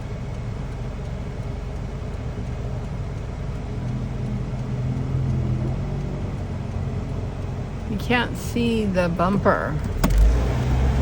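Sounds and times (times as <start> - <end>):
car engine and road noise: 0.0 - 11.0
steady engine hum: 0.0 - 11.0.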